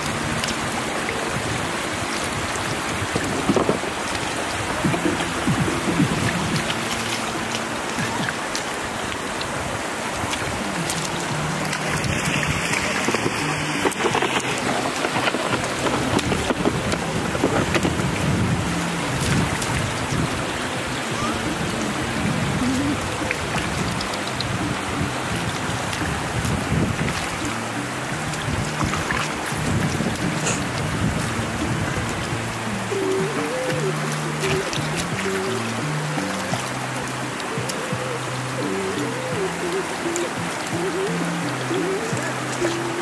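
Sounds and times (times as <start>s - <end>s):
splashes and small knocks: 0.0s - 20.4s, 22.6s - 38.2s
water rushing over rocks: 0.0s - 43.0s.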